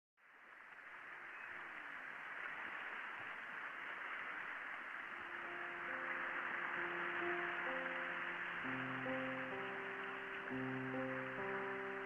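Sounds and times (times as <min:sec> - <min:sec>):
faint music: 0:00.2 - 0:12.0
radio static hiss: 0:00.2 - 0:12.0.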